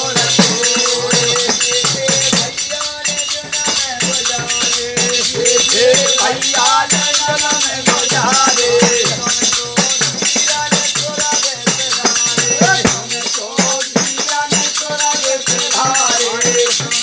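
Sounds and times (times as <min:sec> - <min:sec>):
bright jingling: 0:00.0 - 0:17.0
frame drum beat: 0:00.0 - 0:17.0
hand cymbals: 0:00.0 - 0:17.0
man singing: 0:00.0 - 0:17.0.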